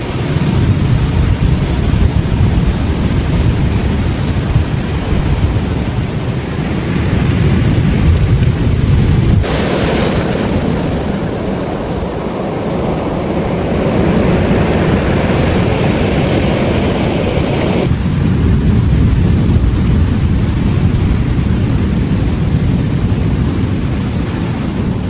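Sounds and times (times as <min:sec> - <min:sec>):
surf washing on a beach: 0:00.0 - 0:25.0
wind buffeting the microphone: 0:00.0 - 0:25.0.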